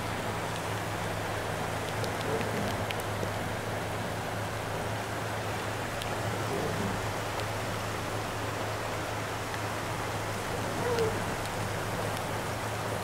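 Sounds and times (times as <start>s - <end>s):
rain and floodwater rushing: 0.0s - 13.0s.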